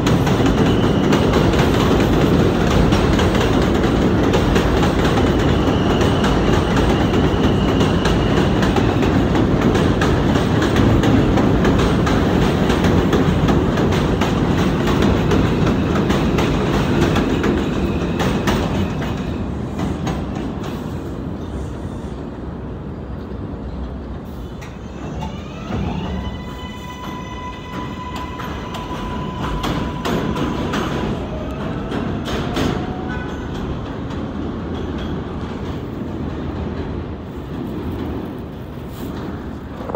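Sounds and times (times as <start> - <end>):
subway train wheels clattering: 0.0 - 39.9.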